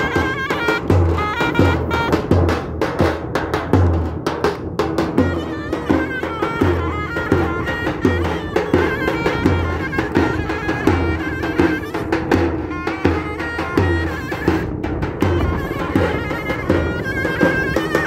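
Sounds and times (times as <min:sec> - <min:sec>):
shrill reedy wind instrument melody: 0:00.0 - 0:02.8, 0:05.1 - 0:18.0.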